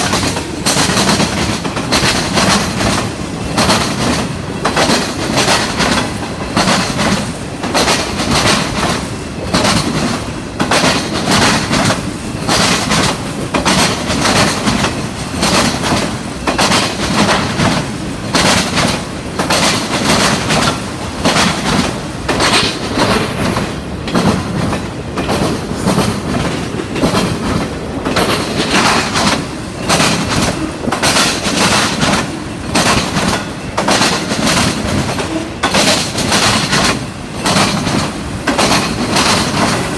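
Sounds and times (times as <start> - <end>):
train rumble: 0.0 - 39.9
wheels clacking over rail joints: 0.0 - 39.9.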